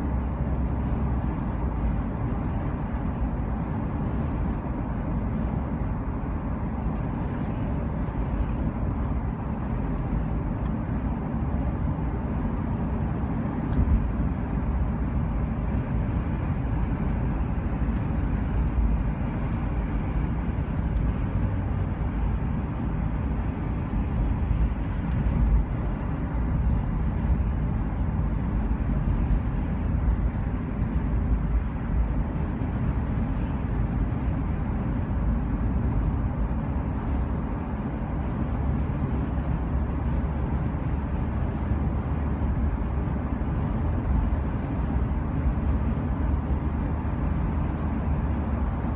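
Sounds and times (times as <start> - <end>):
moving vehicle rumble: 0.0 - 48.9.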